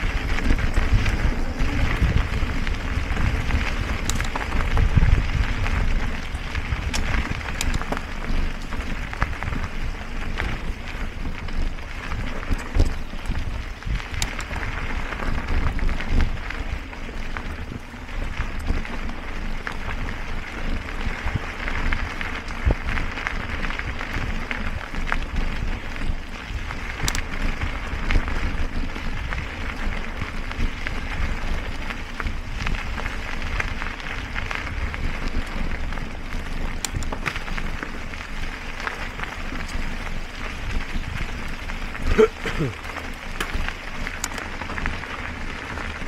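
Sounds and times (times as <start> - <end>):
bike clicks and rattles: 0.0 - 46.0
wind and tyre rumble: 0.0 - 46.0.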